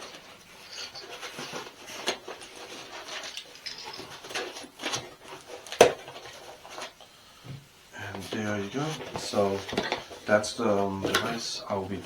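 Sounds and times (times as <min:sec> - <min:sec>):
rustling packaging: 0:00.0 - 0:07.1, 0:08.0 - 0:12.0.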